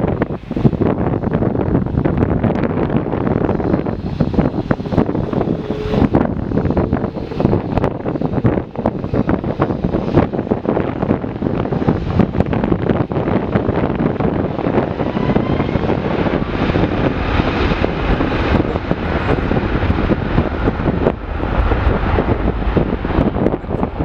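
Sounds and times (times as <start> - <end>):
faint rising whine: 0.0 - 22.1
jet airliner engines rumbling: 0.0 - 24.0
wind buffeting on microphone: 0.0 - 24.0.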